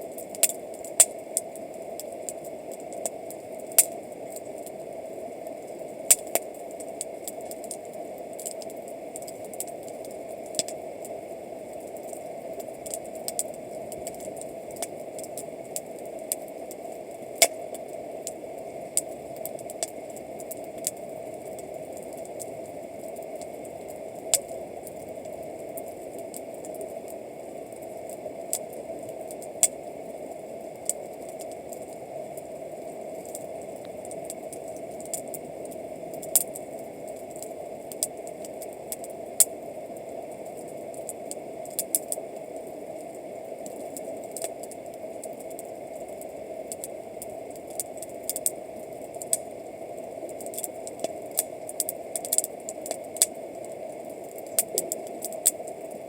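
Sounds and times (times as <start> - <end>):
campfire crackling and popping: 0.0 - 56.0
steady fire hiss: 0.0 - 56.0.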